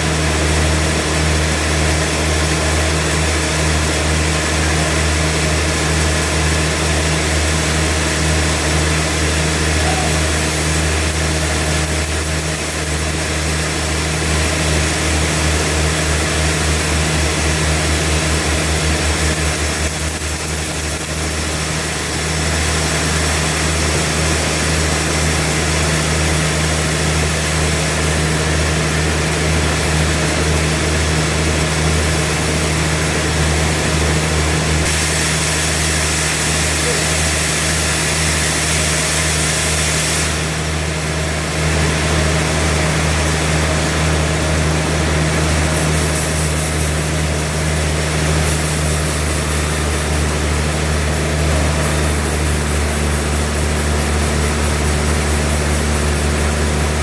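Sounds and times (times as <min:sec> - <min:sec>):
sawmill engine humming: 0:00.0 - 0:57.0.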